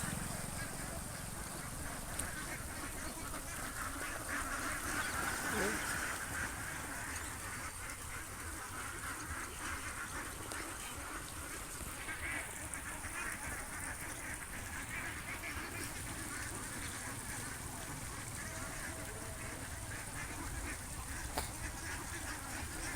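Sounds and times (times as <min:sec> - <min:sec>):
ducks quacking: 0:00.0 - 0:22.9
geese honking: 0:00.0 - 0:22.9.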